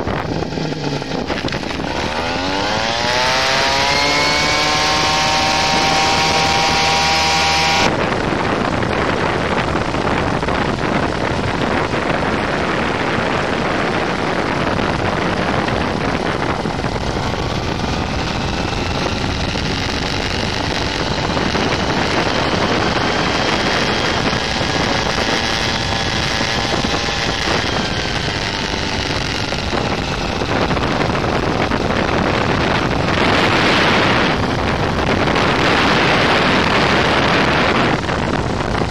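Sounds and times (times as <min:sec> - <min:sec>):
paramotor engine running: 0:00.0 - 0:38.9
wind rushing over microphone: 0:00.0 - 0:38.9.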